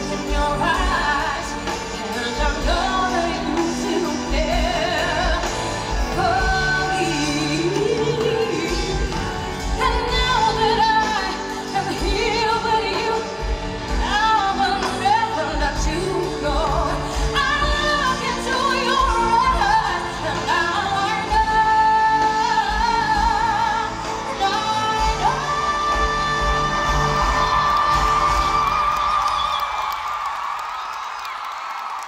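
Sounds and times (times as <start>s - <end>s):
woman singing a pop ballad: 0.0s - 28.8s
band accompaniment: 0.0s - 32.0s.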